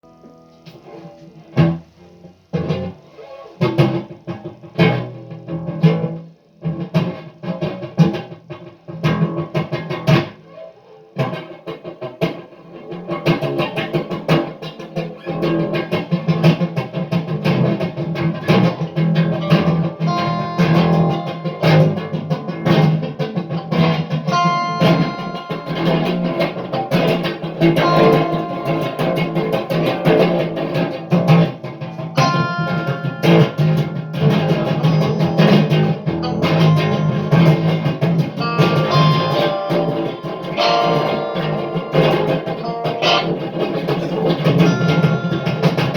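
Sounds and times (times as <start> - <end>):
guitar picking and strumming: 0.0 - 45.9.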